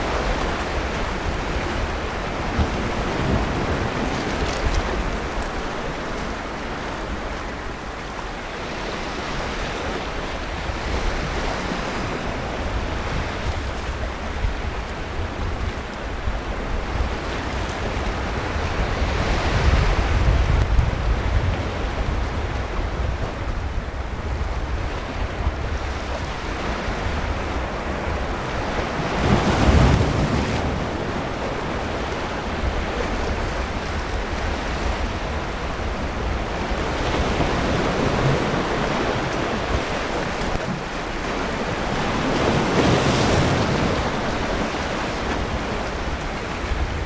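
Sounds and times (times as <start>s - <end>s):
sea waves breaking on beach: 0.0s - 47.0s
wind rumble on microphone: 0.0s - 47.0s.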